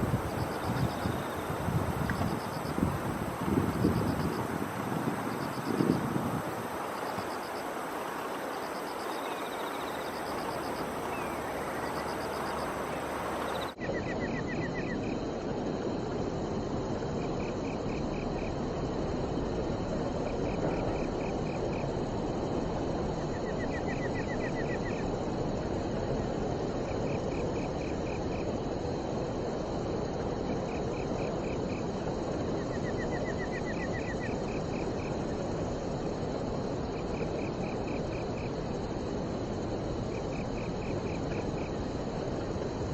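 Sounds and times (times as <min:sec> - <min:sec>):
crickets chirping in trills: 0:00.0 - 0:42.9
steady outdoor rush of noise: 0:00.0 - 0:42.9.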